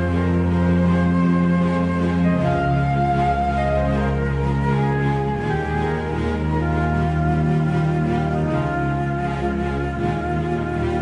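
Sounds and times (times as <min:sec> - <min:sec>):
slow sustained background music: 0:00.0 - 0:11.0.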